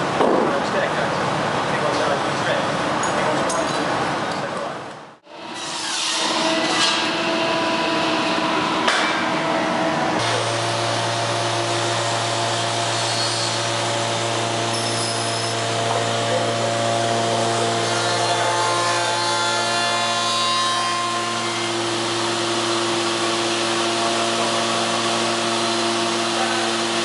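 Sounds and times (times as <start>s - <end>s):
woodworking machine humming: 5.2s - 27.0s.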